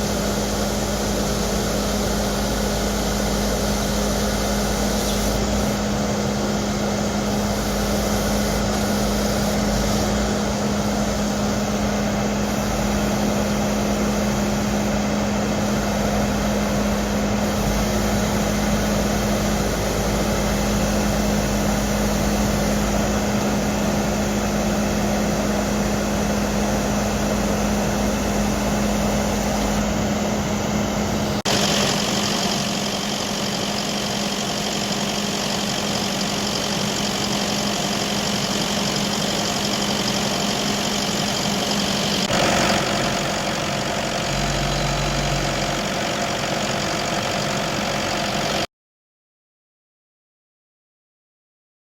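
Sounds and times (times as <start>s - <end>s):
diesel engine running: 0.0s - 48.7s.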